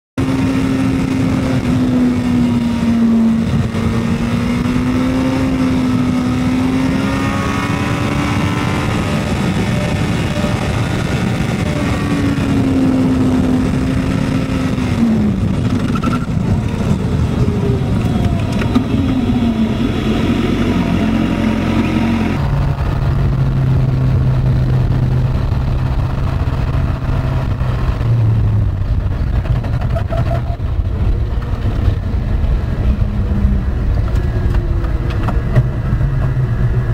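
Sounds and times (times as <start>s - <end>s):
motorcycle engine running: 0.2s - 36.9s
wind rush: 0.2s - 36.9s.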